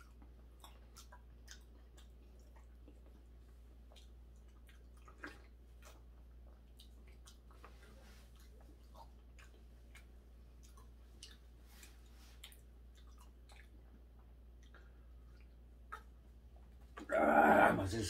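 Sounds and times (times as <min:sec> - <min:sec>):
person chewing: 0:00.0 - 0:03.3, 0:03.9 - 0:17.6
low room hum: 0:00.0 - 0:18.0.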